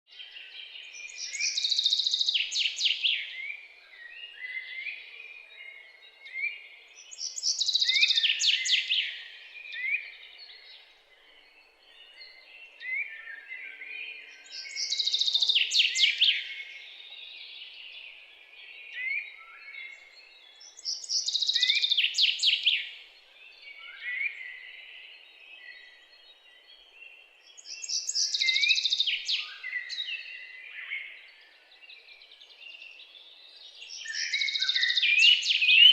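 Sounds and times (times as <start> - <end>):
songbird high falling song: 0.1 - 35.9.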